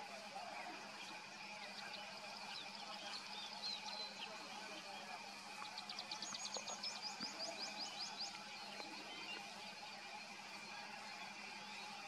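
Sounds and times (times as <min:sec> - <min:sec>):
faint background hum: 0:00.0 - 0:12.0
songbird chirping: 0:00.9 - 0:12.0.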